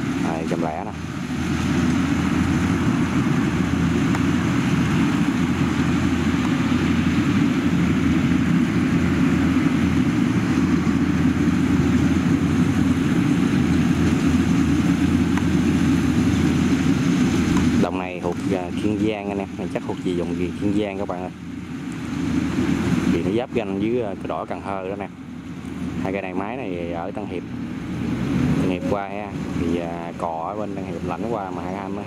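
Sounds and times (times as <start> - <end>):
combine harvesters running: 0.0 - 32.0.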